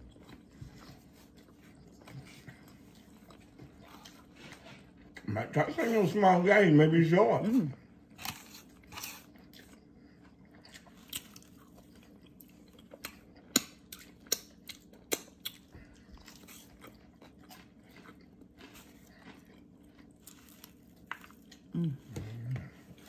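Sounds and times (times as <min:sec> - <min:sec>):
person chewing food: 0:00.0 - 0:06.2, 0:07.4 - 0:23.0
faint steady hum: 0:00.0 - 0:23.0.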